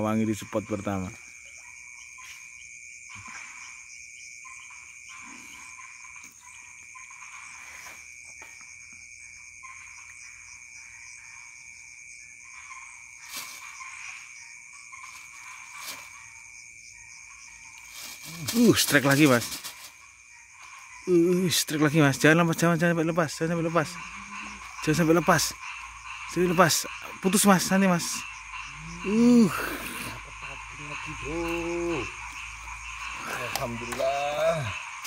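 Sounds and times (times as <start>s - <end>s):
frogs trilling: 0.0s - 35.0s
insects trilling: 0.0s - 35.0s.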